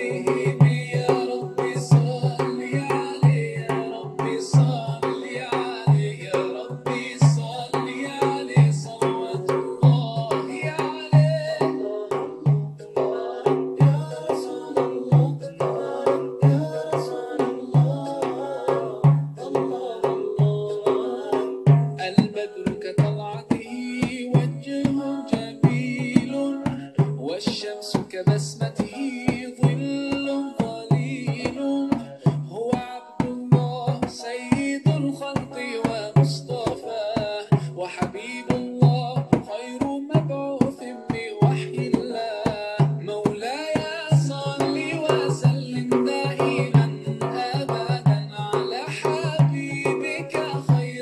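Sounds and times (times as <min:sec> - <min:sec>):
man singing: 0:00.0 - 0:51.0
recorded vocal backing track: 0:00.0 - 0:51.0.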